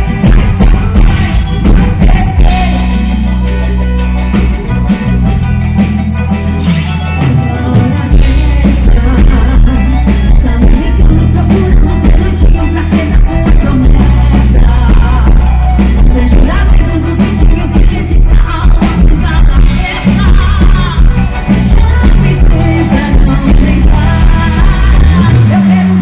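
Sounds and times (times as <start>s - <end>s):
person singing: 0.0s - 5.2s, 6.5s - 26.0s
band playing pop music: 0.0s - 26.0s
heavy bass line: 0.0s - 26.0s.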